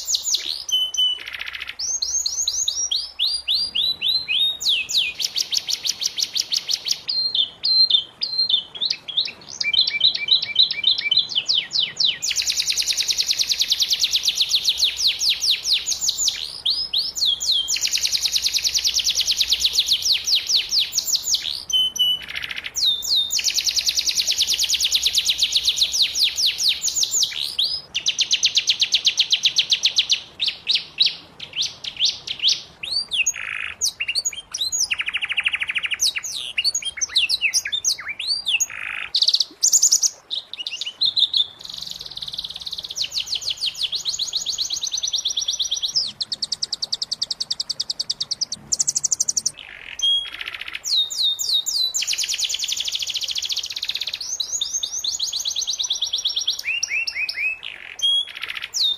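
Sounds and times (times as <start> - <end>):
canary singing fast trills: 0.0 - 58.9.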